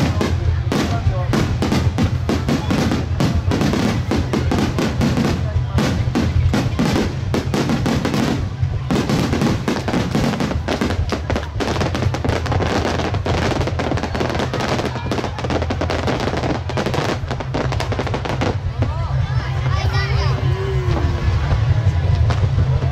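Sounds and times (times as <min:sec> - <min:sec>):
fireworks bursting and crackling: 0:00.0 - 0:22.9.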